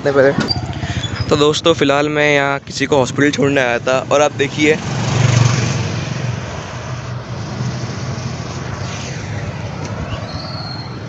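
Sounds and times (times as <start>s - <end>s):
road noise: 0.0s - 11.0s
motor vehicle engine running: 0.2s - 10.2s.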